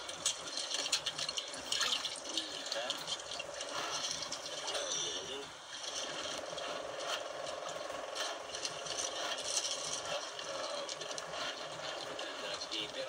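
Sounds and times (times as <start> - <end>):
rapid mechanical ticking: 0.0 - 13.0.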